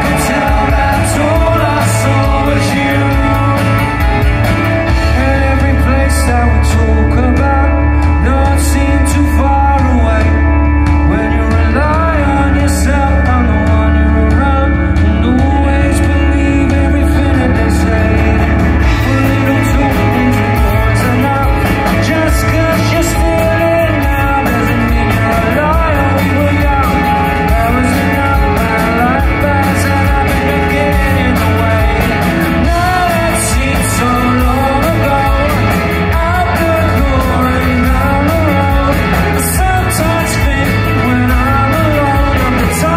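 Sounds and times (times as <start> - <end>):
bass guitar: 0.0 - 42.9
drums: 0.0 - 42.9
electric guitars: 0.0 - 42.9
man singing: 0.0 - 42.9.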